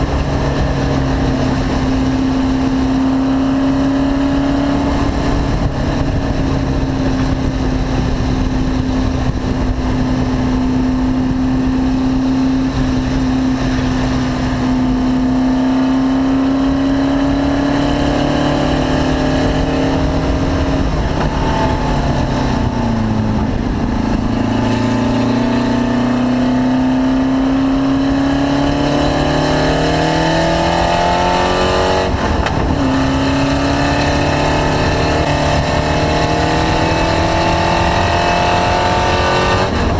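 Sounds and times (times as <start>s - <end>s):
car engine under load: 0.0s - 39.9s.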